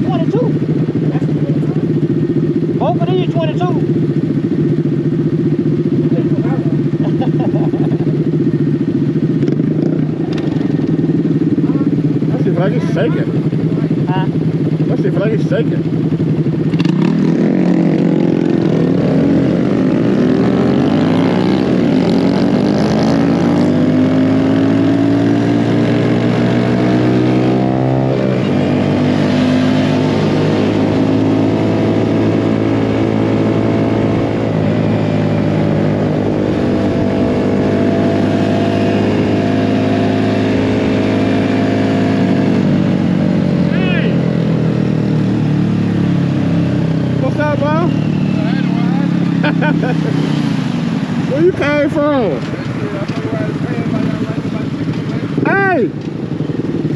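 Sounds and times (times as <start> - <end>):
mini bike engine revving: 0.0 - 56.9.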